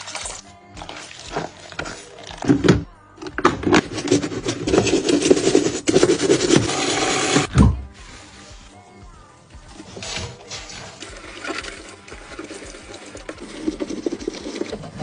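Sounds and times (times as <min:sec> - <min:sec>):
scrubbing washing machine parts: 0:00.2 - 0:07.7, 0:09.7 - 0:15.0.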